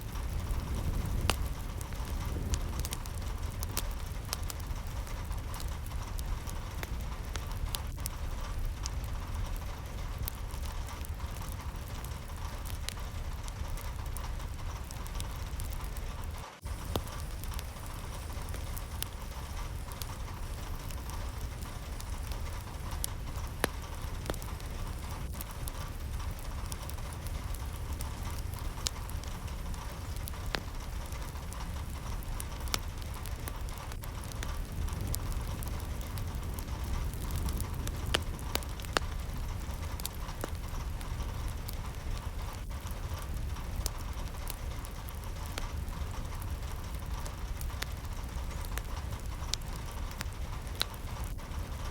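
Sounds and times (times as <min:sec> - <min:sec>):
low rumble: 0:00.0 - 0:51.9
raindrops tapping a surface: 0:00.0 - 0:51.9
steady rain: 0:00.0 - 0:51.9.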